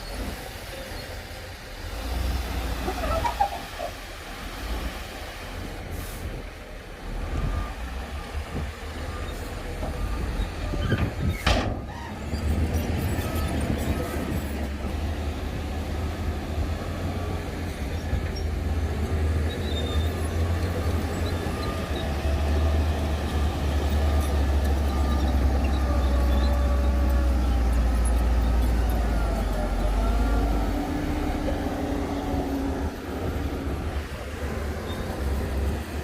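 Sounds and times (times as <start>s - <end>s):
diesel machinery rumbling: 0.0s - 36.0s.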